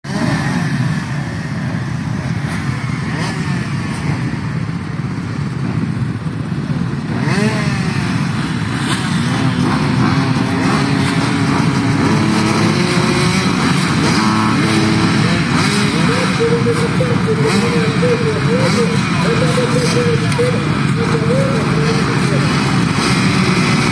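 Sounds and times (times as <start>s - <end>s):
motorcycle engines revving: 0.0s - 23.9s.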